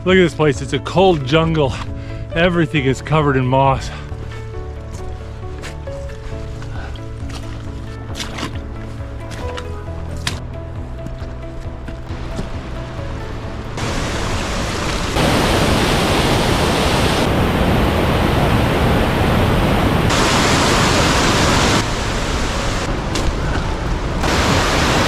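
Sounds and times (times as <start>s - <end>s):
rushing water: 2.7s - 10.4s, 11.5s - 25.0s.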